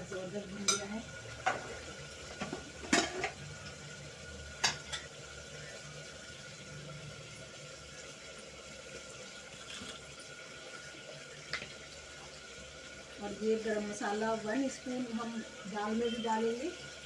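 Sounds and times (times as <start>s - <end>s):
gas burner hiss and hum: 0.0s - 17.0s.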